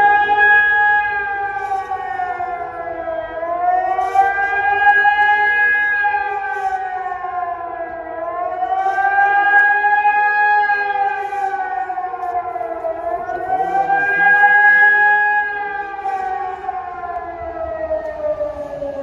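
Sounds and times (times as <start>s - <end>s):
siren howling: 0.0s - 19.0s.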